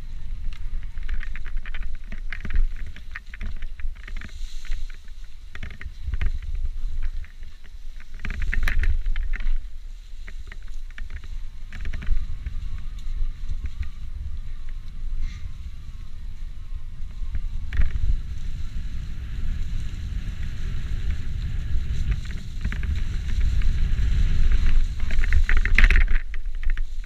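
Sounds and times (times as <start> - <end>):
bike clicks and rattles: 0.0 - 27.0
wind rumbling on microphone: 0.0 - 27.0.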